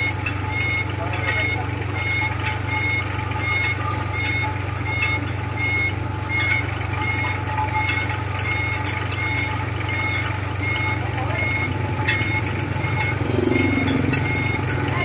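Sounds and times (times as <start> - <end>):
diesel engine idling: 0.0 - 15.0
reversing alarm beeps: 0.0 - 15.0.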